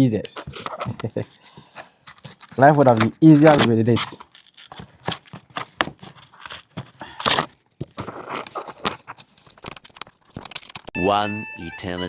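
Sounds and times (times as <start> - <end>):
cardboard box being torn open: 0.3 - 10.9.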